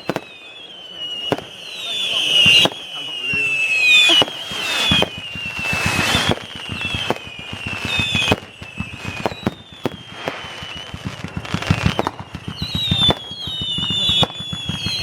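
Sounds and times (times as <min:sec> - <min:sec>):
firework crackling pops and bangs: 0:00.0 - 0:15.0
firework whistles: 0:00.0 - 0:15.0.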